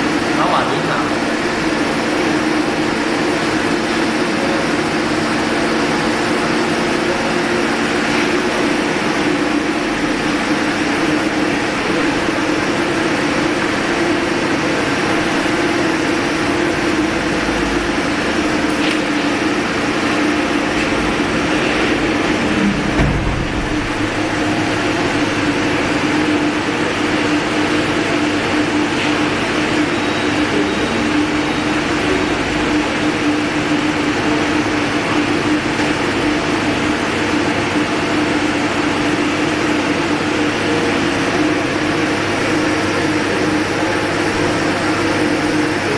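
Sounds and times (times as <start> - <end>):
machinery droning hum: 0.0 - 45.9.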